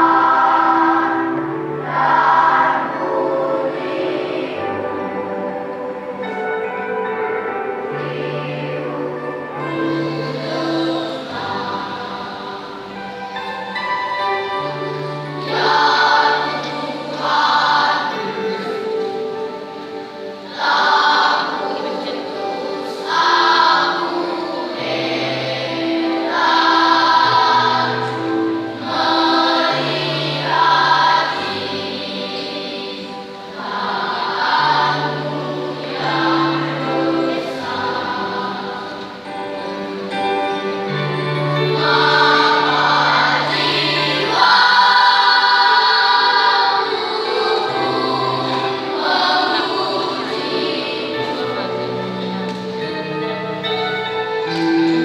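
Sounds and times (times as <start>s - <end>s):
choir singing gospel song: 0.0s - 52.8s.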